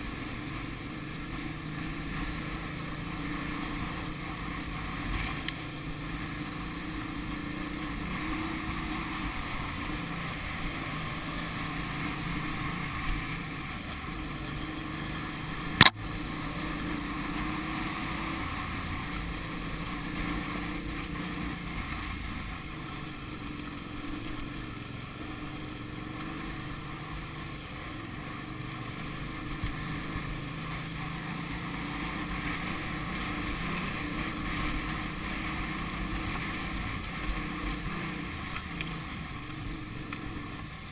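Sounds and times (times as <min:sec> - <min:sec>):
hum of another motorcycle: 0:00.0 - 0:40.9
motorcycle engine running: 0:00.0 - 0:40.9.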